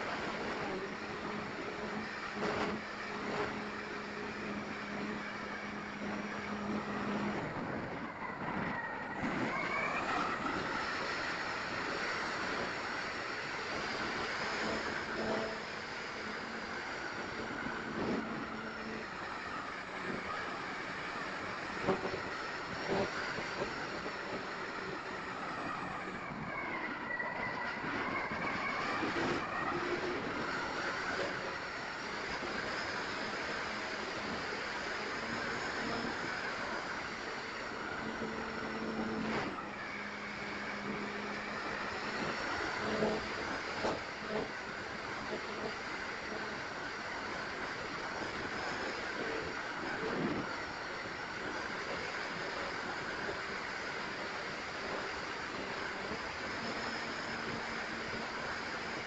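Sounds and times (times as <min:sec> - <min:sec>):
electric motors and propellers: 0:00.0 - 0:59.0
rising motor whine: 0:00.0 - 0:59.0
wind rush on microphone: 0:00.0 - 0:59.0.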